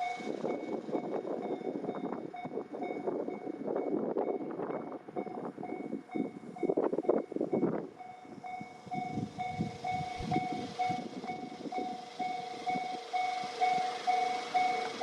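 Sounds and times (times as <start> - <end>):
level crossing warning bell: 0.0 - 15.0
train rumbling and clattering: 0.0 - 15.0.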